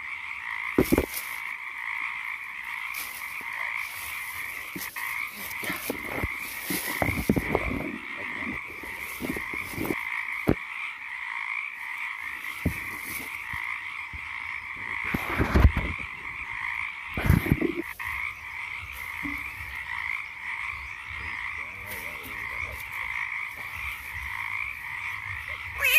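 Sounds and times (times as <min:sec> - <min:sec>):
frogs calling: 0:00.0 - 0:25.9
rustling through dry stems: 0:00.6 - 0:10.7, 0:11.9 - 0:20.5, 0:21.4 - 0:25.9.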